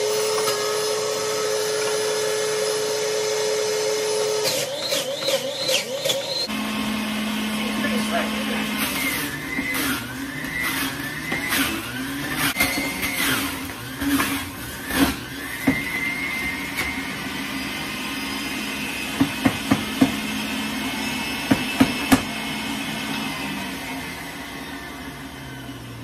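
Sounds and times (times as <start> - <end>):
juicer motor hum and whine: 0.0 - 26.0.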